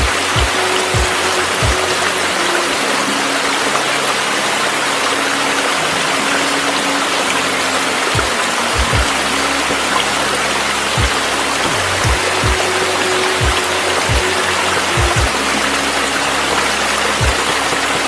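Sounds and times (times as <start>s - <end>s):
slow background music: 0.0s - 18.0s
steady rushing noise: 0.0s - 18.0s.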